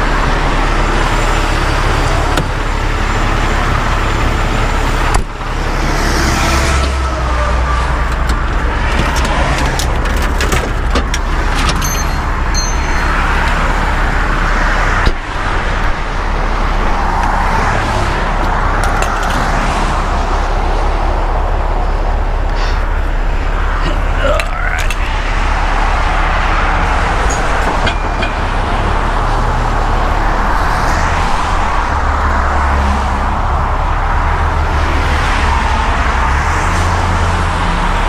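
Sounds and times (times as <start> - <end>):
diesel truck idling: 0.0 - 35.1
traffic passing by: 0.0 - 38.0.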